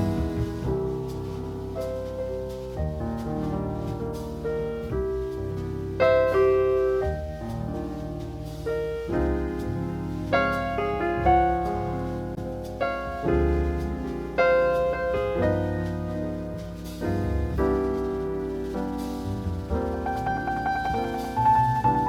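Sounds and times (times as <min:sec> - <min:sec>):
jazz piano: 0:00.0 - 0:22.0.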